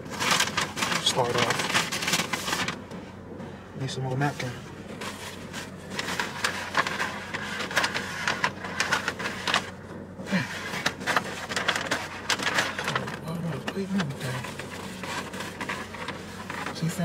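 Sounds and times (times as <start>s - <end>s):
paper napkins crinkling: 0.0s - 2.8s, 5.0s - 16.9s.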